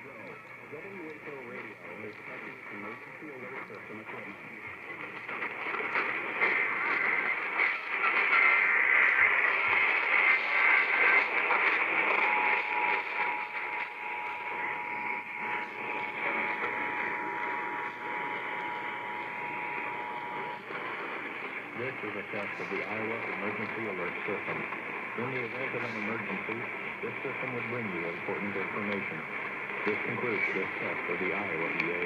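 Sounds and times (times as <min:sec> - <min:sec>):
radio static: 0:00.0 - 0:32.0
buzzy data bursts: 0:04.2 - 0:32.0.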